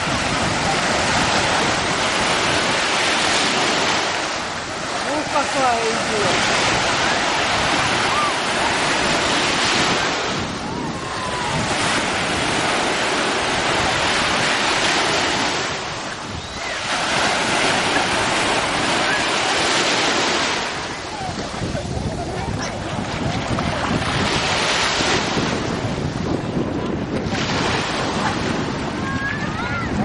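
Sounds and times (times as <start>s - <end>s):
surf breaking on beach: 0.0s - 30.0s.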